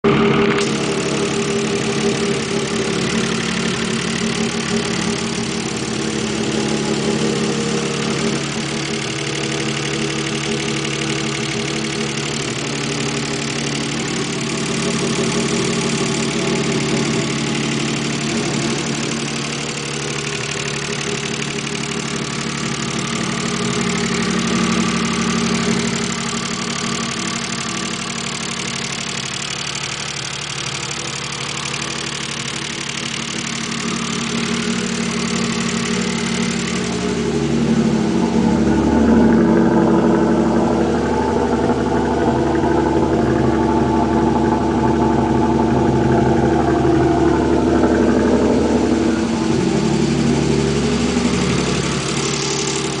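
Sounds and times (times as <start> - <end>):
car engine idling with knocking: 0.0 - 53.0.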